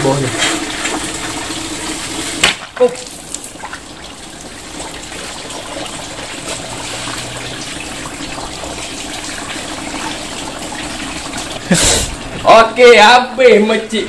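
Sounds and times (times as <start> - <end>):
water splashing and gurgling: 0.0 - 12.5.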